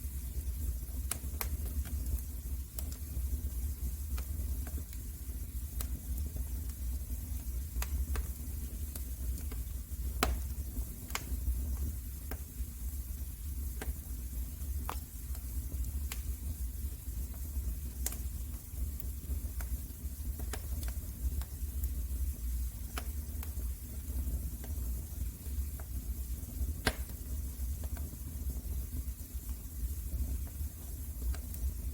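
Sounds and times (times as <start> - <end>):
wood fire crackling: 0.0 - 31.9
fire pops and snaps: 0.3 - 31.9.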